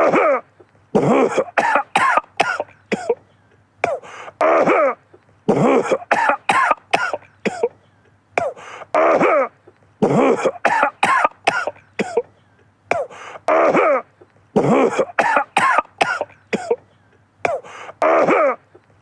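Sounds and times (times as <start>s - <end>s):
man coughing: 0.0s - 7.8s, 8.4s - 18.8s.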